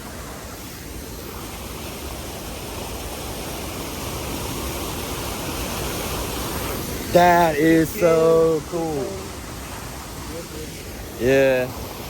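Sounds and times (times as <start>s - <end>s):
waterfall water rushing: 0.0s - 12.0s.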